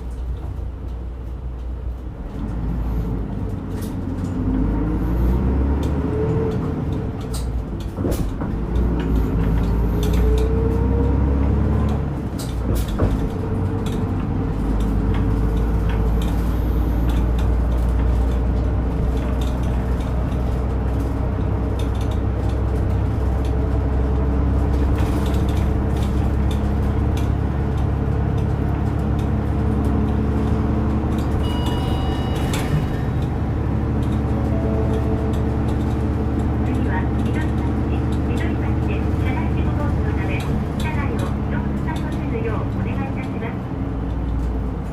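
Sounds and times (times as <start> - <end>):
bus engine accelerating and droning: 0.0 - 44.9.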